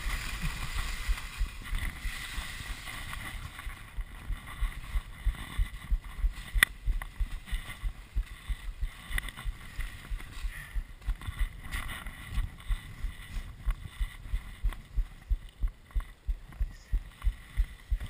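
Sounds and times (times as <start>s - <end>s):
muffled low thumps: 0.0s - 18.0s.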